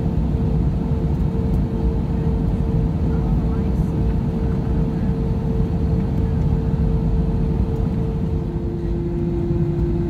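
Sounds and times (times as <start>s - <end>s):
aircraft cabin engine rumble: 0.0s - 10.0s
steady hum: 0.0s - 10.0s.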